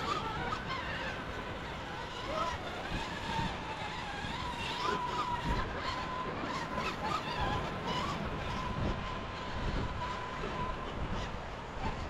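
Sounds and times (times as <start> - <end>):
small motor whining: 0.0 - 12.0.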